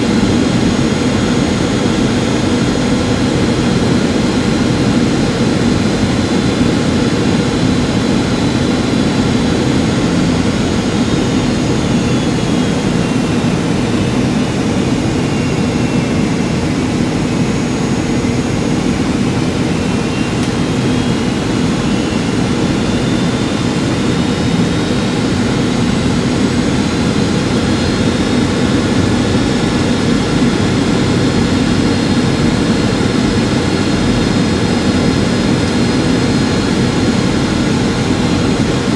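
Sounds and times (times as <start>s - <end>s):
faint high whine: 0.0s - 38.9s
jet cabin engine rumble: 0.0s - 38.9s.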